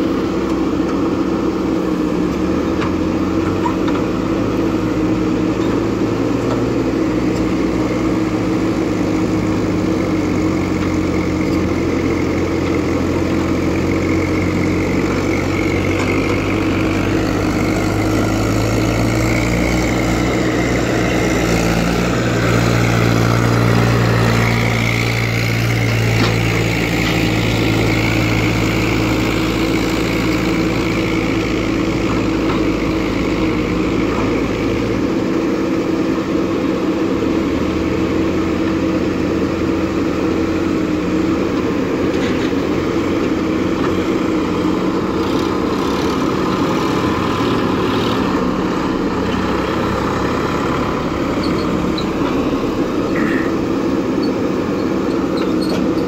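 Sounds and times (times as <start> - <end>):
diesel engine under load: 0.0 - 56.0
backhoe digging gravel: 2.3 - 35.3, 40.1 - 56.0.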